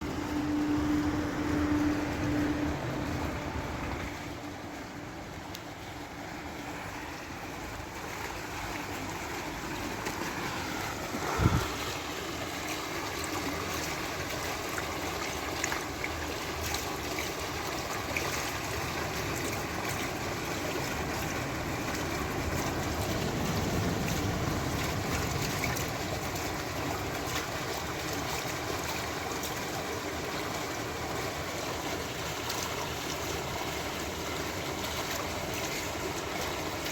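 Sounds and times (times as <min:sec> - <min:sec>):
water flowing: 0:00.0 - 0:36.9.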